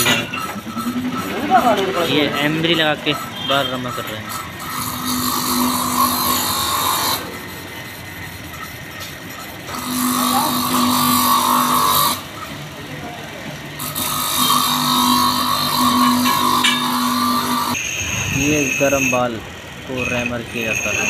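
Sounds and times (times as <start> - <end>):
valve lapping grinding rasp: 0.0 - 12.6, 13.8 - 21.0.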